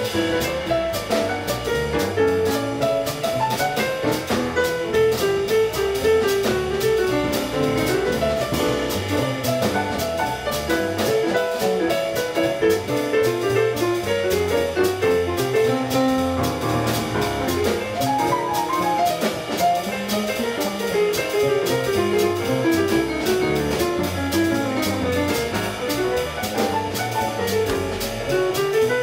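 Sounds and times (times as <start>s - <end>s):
double bass: 0.0s - 29.0s
drum kit and cymbals: 0.0s - 29.0s
piano: 0.0s - 29.0s.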